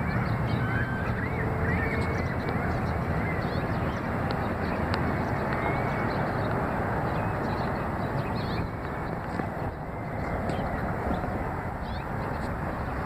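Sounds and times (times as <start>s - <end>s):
background traffic: 0.0s - 13.0s
small birds chirping: 0.0s - 13.0s.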